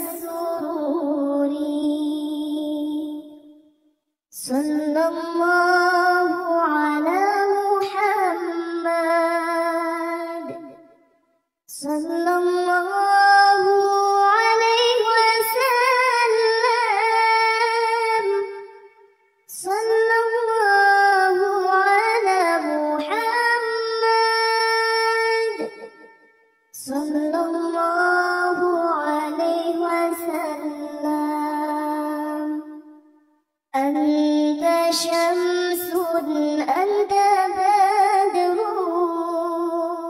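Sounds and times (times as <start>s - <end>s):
child singing devotional chant: 0.0s - 3.6s, 4.4s - 10.9s, 11.7s - 18.9s, 19.5s - 26.0s, 26.7s - 33.1s, 33.8s - 40.0s.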